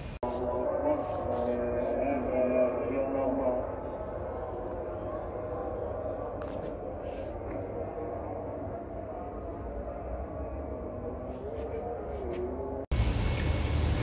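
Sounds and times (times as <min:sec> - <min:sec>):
distant traffic hum: 0:00.0 - 0:14.0
insect chirping: 0:00.2 - 0:12.8.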